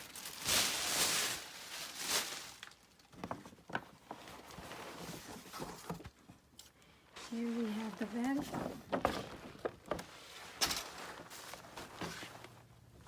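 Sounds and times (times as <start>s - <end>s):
paper and packaging rustling: 0.0s - 6.2s, 7.2s - 12.7s.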